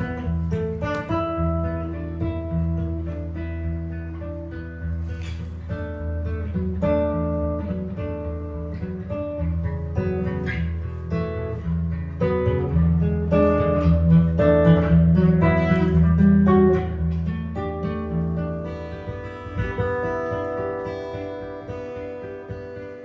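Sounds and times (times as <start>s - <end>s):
jazz guitar improvising: 0.0s - 23.0s.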